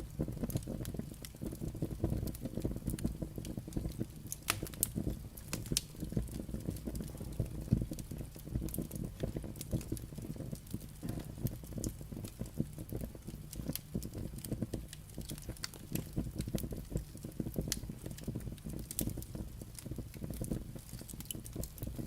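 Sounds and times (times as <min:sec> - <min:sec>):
firewood crackling and popping: 0:00.0 - 0:22.0
low rumble of fire: 0:00.0 - 0:22.0.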